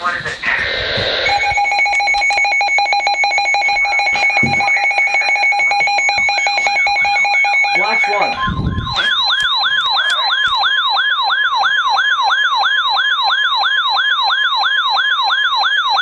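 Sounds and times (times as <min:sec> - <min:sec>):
steady high warning tone: 0:00.5 - 0:16.0
siren alarm falling sweep: 0:00.6 - 0:16.0.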